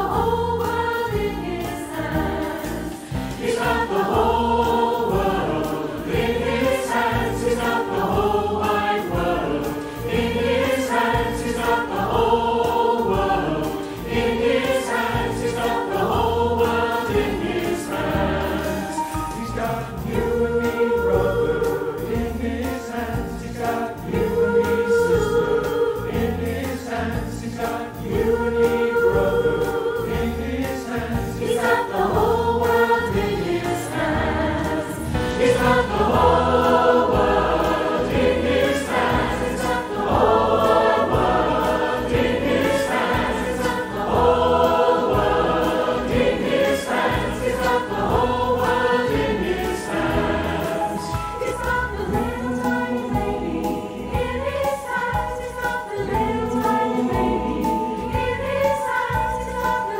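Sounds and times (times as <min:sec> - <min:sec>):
drum kit: 0:00.0 - 0:59.9
mixed choir singing: 0:00.0 - 0:59.9
piano: 0:00.0 - 0:59.9.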